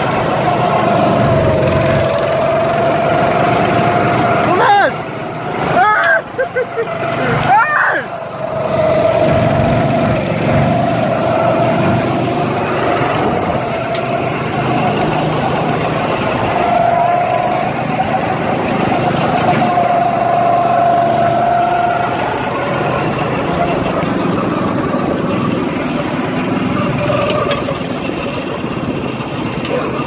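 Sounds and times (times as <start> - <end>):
go-kart engines droning: 0.0 - 30.0.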